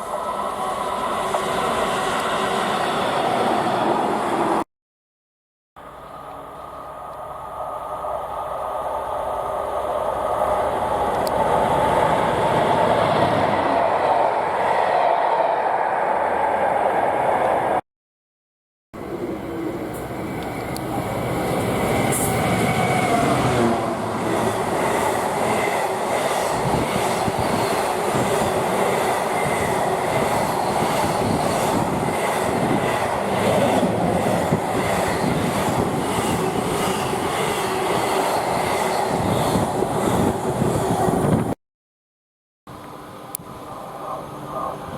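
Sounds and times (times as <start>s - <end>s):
train rumbling past: 0.0s - 4.6s, 5.8s - 17.8s, 19.0s - 41.6s.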